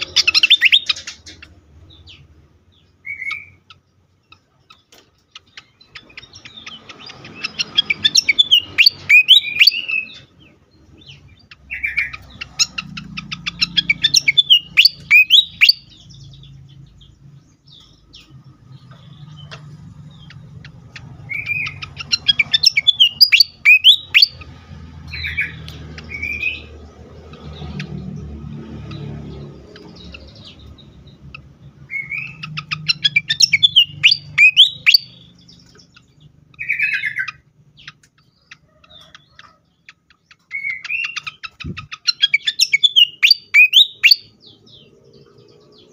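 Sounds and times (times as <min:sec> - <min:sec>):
bird singing ticks and whistles: 0:00.0 - 0:02.3, 0:03.0 - 0:28.2, 0:28.8 - 0:45.0.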